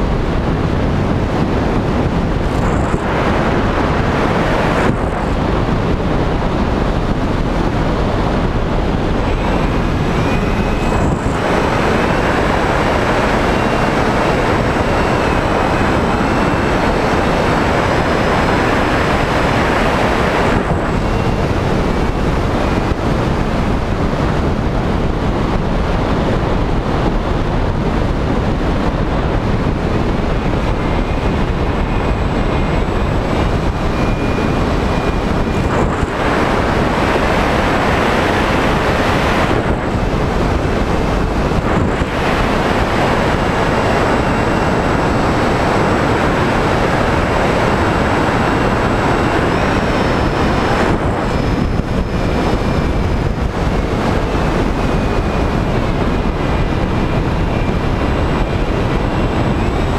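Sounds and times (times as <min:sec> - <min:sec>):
electric motor and propeller whine: 0:00.0 - 0:59.9
wind rush: 0:00.0 - 0:59.9.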